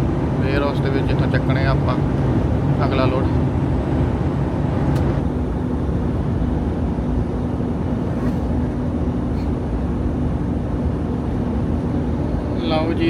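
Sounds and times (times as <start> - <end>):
diesel engine drone: 0.0 - 13.0
road noise: 0.0 - 13.0.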